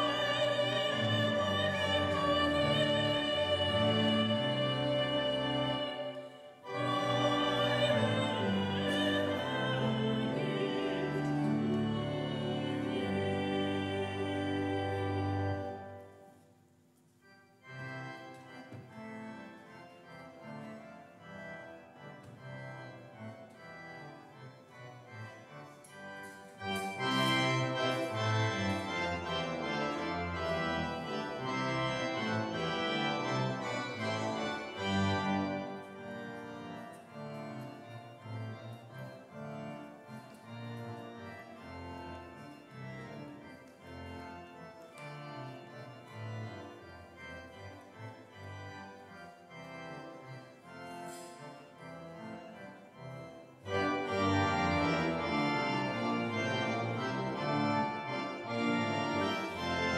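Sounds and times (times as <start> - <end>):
church organ chords: 0.0 - 16.4, 17.2 - 59.9.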